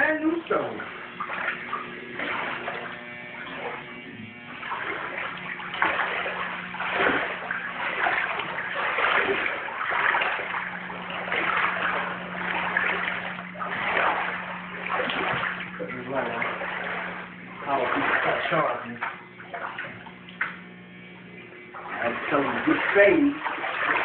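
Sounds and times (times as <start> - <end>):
footsteps splashing through water: 0.0 - 24.0
steady low hum: 0.0 - 24.0.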